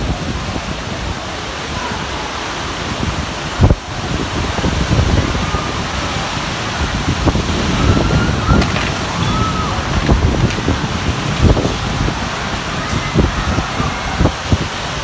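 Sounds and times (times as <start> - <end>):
heavy rain: 0.0 - 15.0
storm wind gusts: 0.0 - 15.0.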